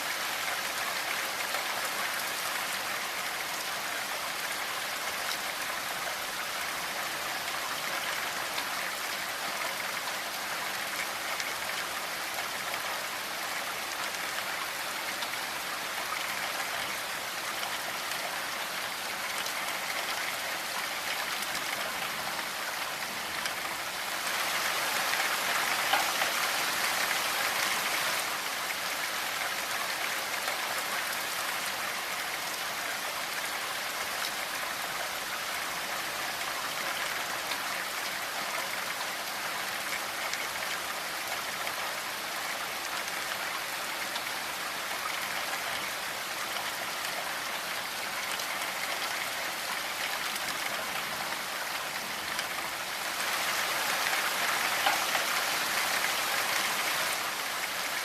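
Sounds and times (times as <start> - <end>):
raindrops pattering: 0.0 - 58.0.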